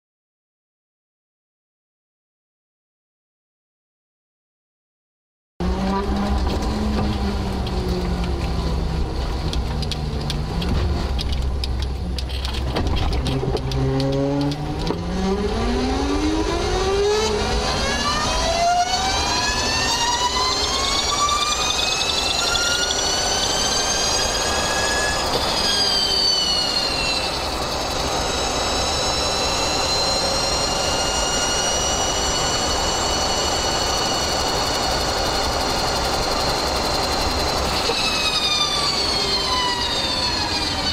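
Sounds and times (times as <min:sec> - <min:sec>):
electric motor whining: 0:05.6 - 0:40.9.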